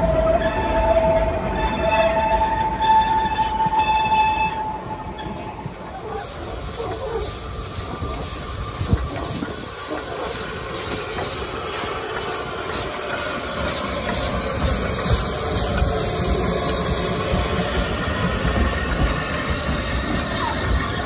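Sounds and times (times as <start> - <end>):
steam locomotive hissing: 0.0 - 21.0
train wheels rumbling on rails: 0.0 - 21.0.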